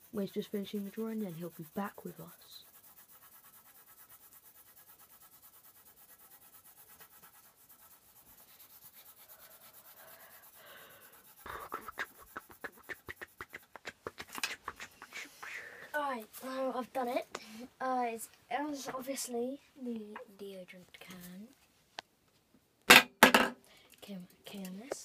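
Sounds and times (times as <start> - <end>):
pencil scratching on paper: 0.0 - 19.4, 21.0 - 21.6.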